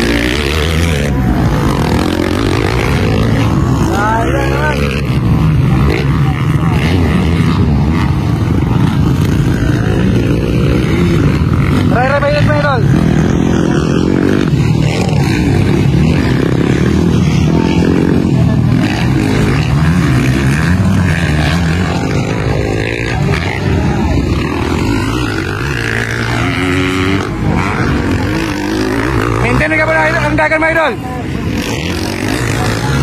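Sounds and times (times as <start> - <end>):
motocross bike engines racing: 0.0 - 33.0.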